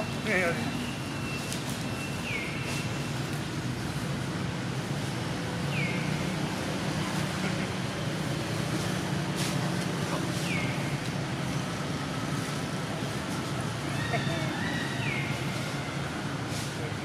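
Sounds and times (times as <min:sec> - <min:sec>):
outdoor noise: 0:00.0 - 0:17.0.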